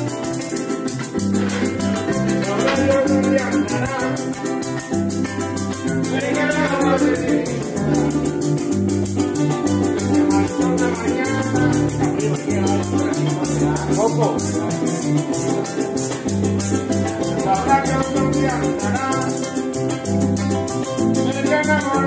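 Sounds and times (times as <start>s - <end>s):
harp melody: 0.0s - 22.0s
maraca shaking: 0.0s - 22.0s
strummed cuatro: 0.0s - 22.0s.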